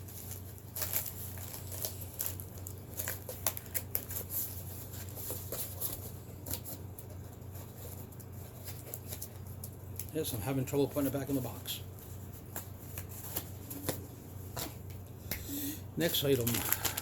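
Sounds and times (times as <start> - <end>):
packaging crinkling and rustling: 0.0 - 15.1, 16.0 - 17.0
low steady hum: 0.0 - 17.0.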